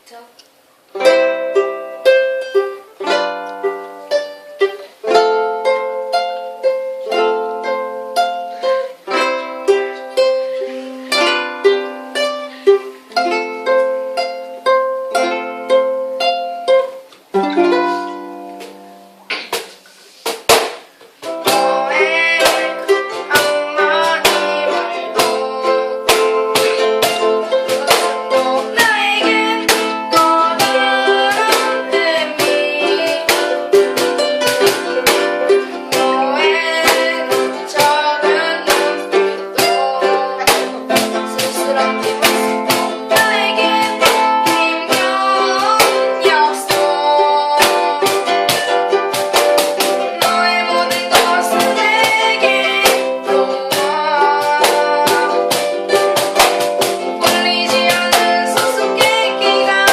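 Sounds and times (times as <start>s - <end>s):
ukulele strumming chords: 0.9s - 59.9s.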